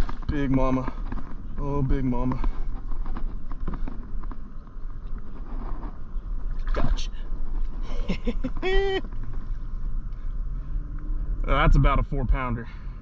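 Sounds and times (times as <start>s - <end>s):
wind rumble on microphone: 0.0s - 12.4s.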